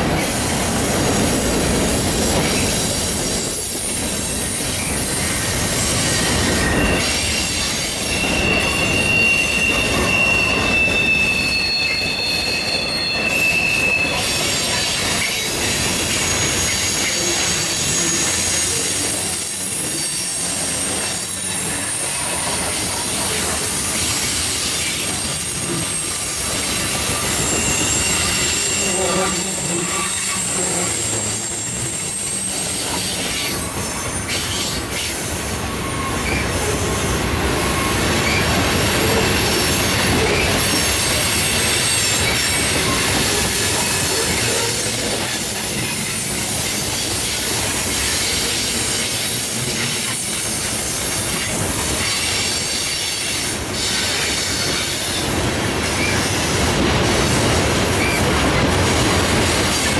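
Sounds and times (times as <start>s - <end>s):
steel wheels rumbling on rail: 0.0s - 59.9s
high-pitched wheel squeal: 3.4s - 55.3s.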